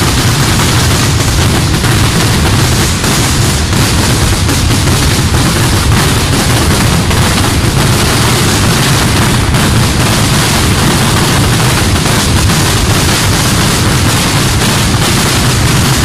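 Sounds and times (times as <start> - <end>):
firecrackers bursting: 0.0 - 16.0.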